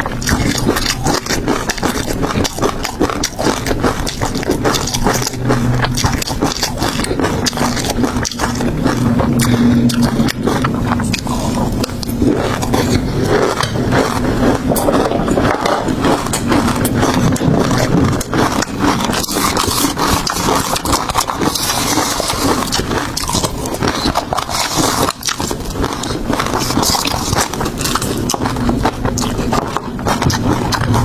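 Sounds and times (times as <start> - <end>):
crunching and chewing food: 0.0 - 31.0.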